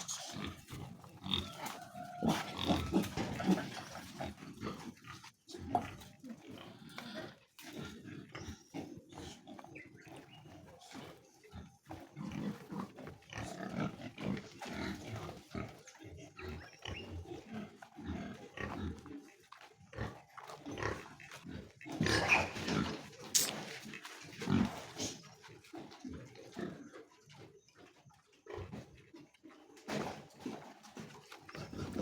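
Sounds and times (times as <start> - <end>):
pigs grunting: 0.0 - 32.0.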